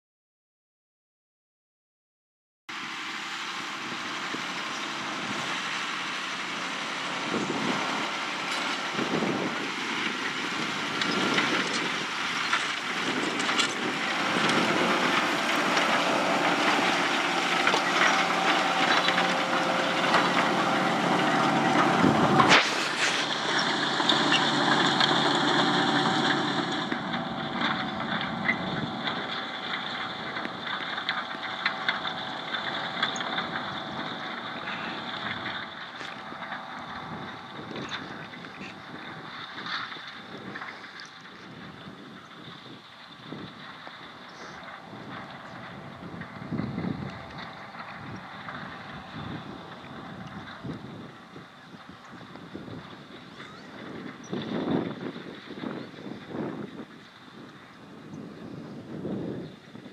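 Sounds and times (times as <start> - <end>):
tractor diesel engine under load: 2.7 - 59.9.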